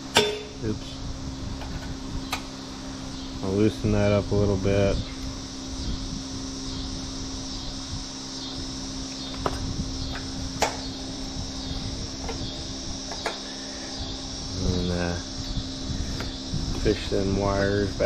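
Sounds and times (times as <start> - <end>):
fan hum: 0.0 - 18.0.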